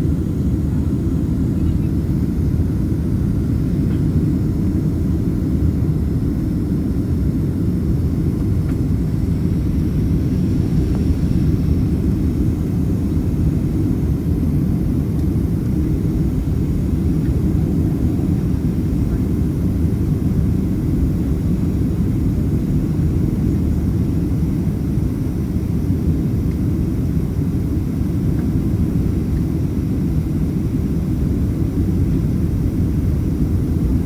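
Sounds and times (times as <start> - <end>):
aircraft cabin engine rumble: 0.0 - 34.0
faint high whine: 0.0 - 34.0.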